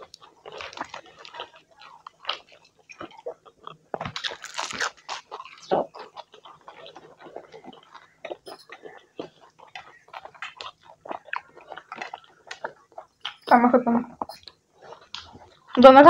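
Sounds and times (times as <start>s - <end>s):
mouth smacks and clicks while chewing: 0.0s - 13.5s, 14.2s - 15.8s.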